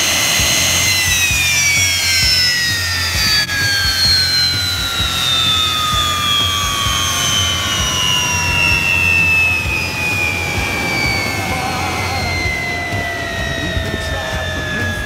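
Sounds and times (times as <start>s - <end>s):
jet engine winding down: 0.0s - 15.0s.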